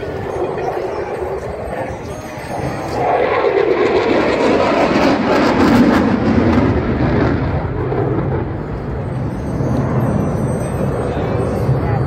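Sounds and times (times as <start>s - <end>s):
aircraft flying overhead: 0.0s - 12.0s.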